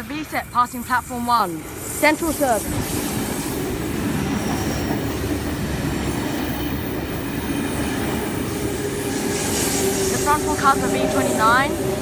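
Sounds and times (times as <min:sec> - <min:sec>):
train running past on rails: 0:00.0 - 0:12.0.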